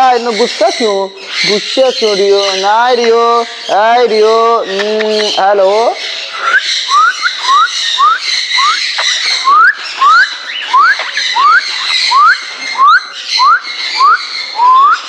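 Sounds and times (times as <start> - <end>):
parrots chattering: 0.0 - 15.0.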